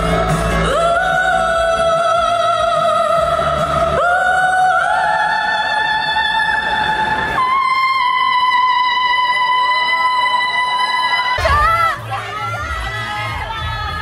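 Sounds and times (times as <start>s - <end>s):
high voice singing with vibrato: 0.0s - 12.8s
soft musical accompaniment: 0.0s - 14.0s.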